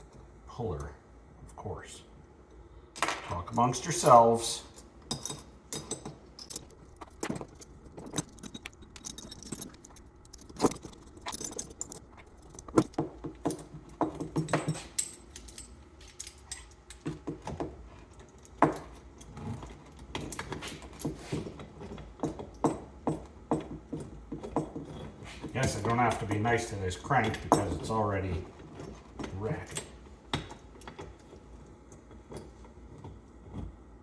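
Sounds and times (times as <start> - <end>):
metal tools clinking and rattling: 3.6 - 32.7.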